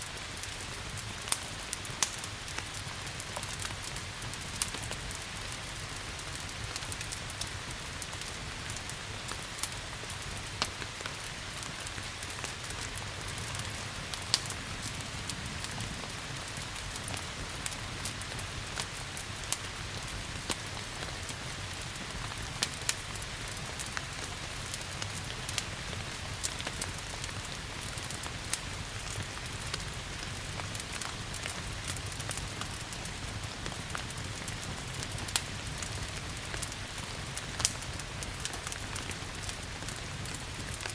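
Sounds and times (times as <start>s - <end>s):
steady rain hiss: 0.0s - 40.9s
wood fire crackling and popping: 0.1s - 40.9s.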